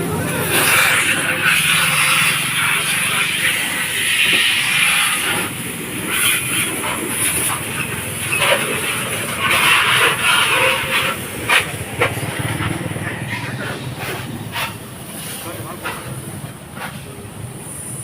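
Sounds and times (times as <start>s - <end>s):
water jet spraying car: 0.0s - 18.0s.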